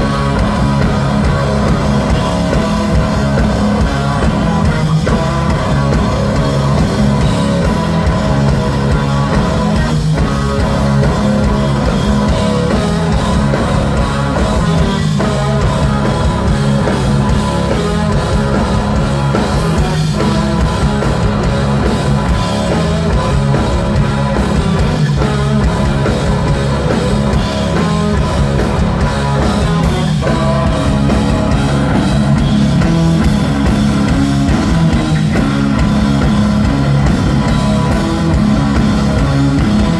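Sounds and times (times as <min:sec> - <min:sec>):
bass guitar: 0:00.0 - 0:39.9
distorted electric guitar: 0:00.0 - 0:39.9
drum kit: 0:00.0 - 0:39.9.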